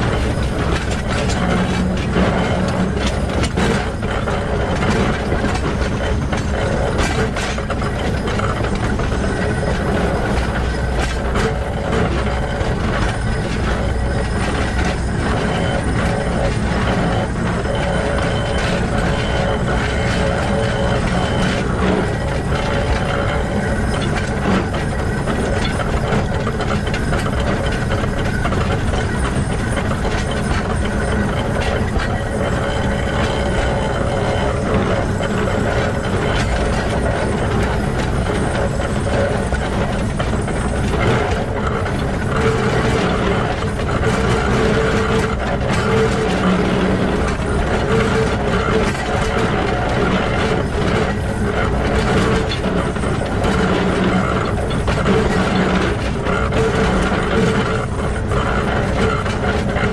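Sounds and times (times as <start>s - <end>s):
locomotive gears clattering: 0.0s - 59.9s.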